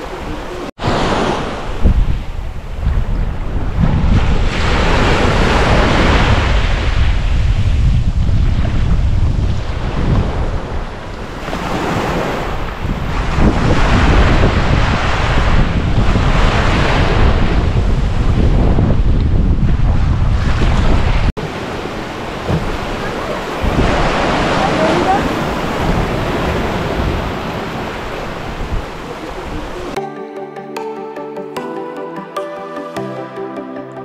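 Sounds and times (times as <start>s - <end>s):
ocean waves washing on beach: 0.0s - 30.0s
wind buffeting microphone: 0.0s - 30.0s.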